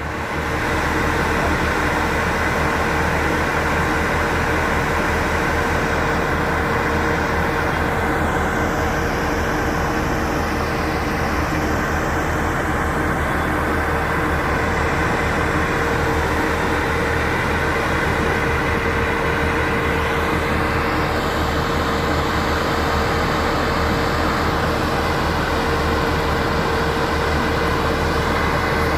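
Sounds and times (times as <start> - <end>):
diesel construction machinery running: 0.0 - 28.9.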